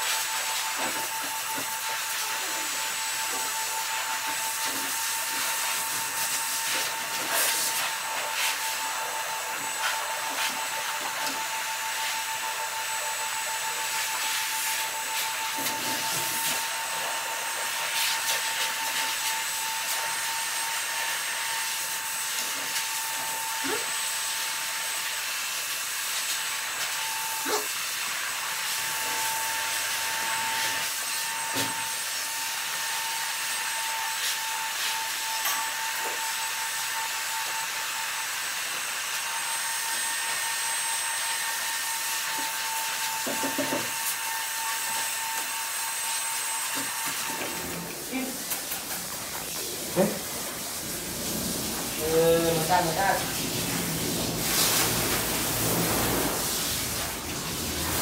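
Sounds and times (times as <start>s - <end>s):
small electric motor whining: 0.0s - 56.4s.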